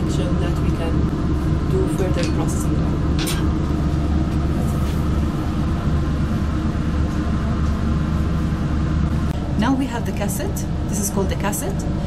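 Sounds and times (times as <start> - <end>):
fume hood fan humming: 0.0 - 12.0.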